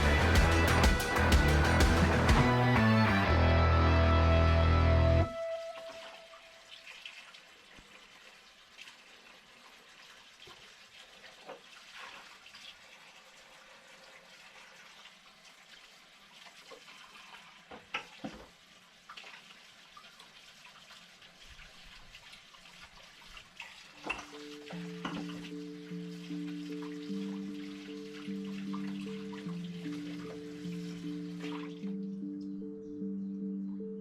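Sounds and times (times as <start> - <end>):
faint water sounds: 5.3 - 34.0.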